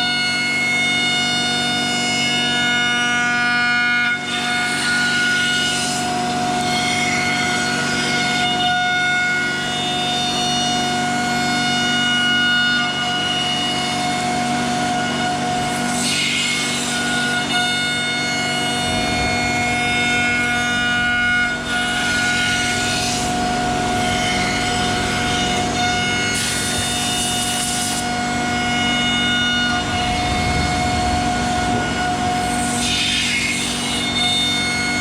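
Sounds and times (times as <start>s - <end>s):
router spindle whine: 0.0s - 35.0s.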